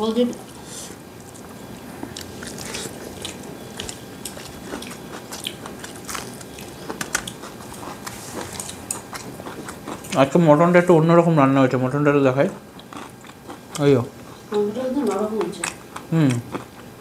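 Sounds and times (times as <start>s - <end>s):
man chewing with wet clicks: 0.3s - 10.7s, 12.4s - 14.4s, 15.0s - 17.0s.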